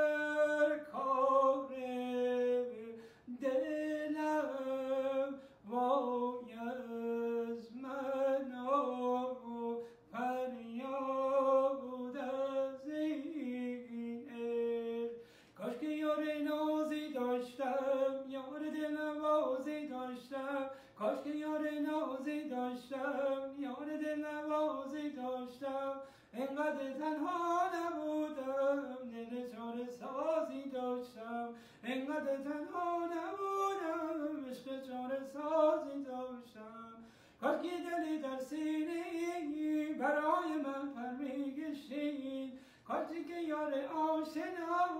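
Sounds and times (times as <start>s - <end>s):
man singing unaccompanied: 0.0s - 44.9s.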